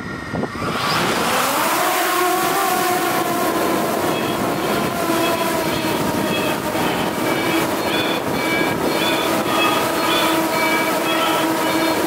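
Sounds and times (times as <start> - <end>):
drone motors whining: 0.0 - 12.0
rushing noise: 0.0 - 12.0.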